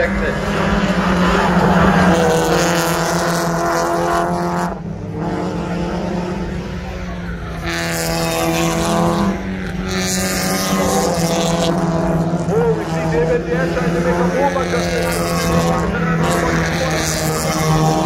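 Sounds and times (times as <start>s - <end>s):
race car engines running hard: 0.0s - 18.0s.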